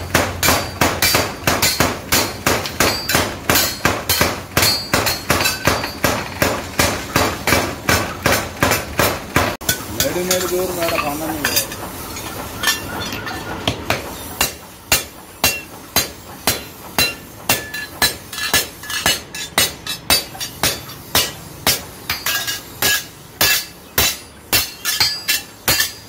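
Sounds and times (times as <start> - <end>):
hammer striking iron on anvil: 0.0 - 26.0.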